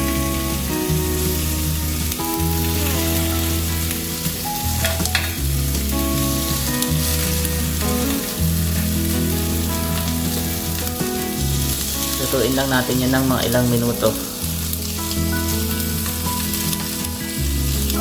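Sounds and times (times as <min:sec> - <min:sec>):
fish sizzling in a frying pan: 0:00.0 - 0:18.0.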